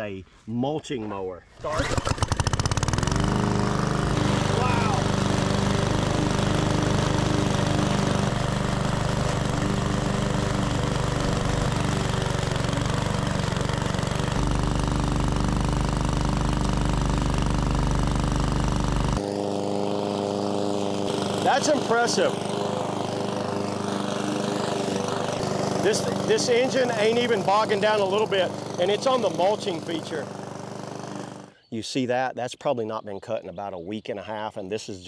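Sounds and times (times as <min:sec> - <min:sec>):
mower mulching tall grass: 0:01.7 - 0:31.5
lawn mower engine running: 0:01.7 - 0:31.6.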